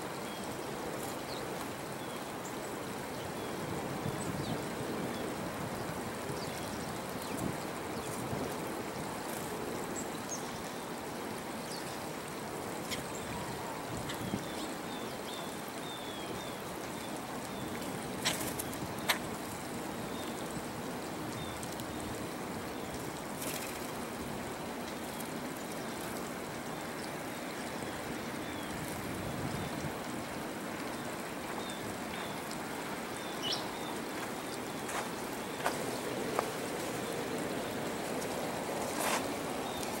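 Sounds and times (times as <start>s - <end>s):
flowing water rushing: 0.0s - 40.0s.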